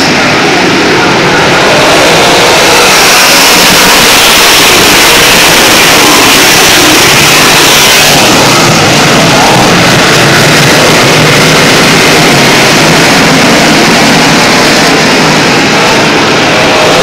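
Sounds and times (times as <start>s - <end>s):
race car engines running hard: 0.0s - 17.0s.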